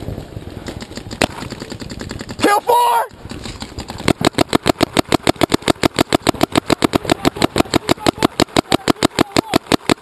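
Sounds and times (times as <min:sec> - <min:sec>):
paintball marker firing rapidly: 0:00.6 - 0:10.0.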